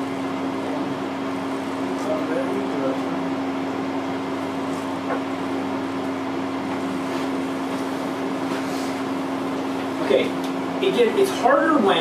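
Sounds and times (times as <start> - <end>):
ventilation hum and hiss: 0.0 - 12.0.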